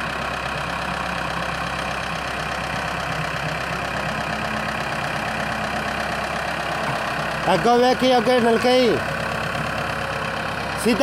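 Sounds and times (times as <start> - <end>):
tractor diesel engines running: 0.0 - 11.0.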